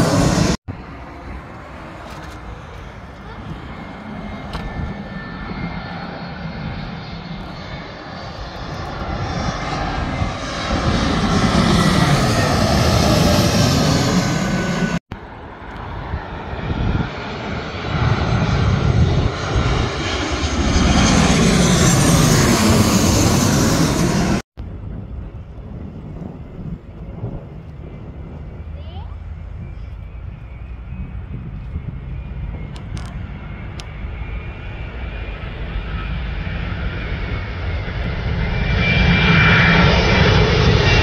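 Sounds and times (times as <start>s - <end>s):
jet airliners passing overhead: 0.0s - 41.0s.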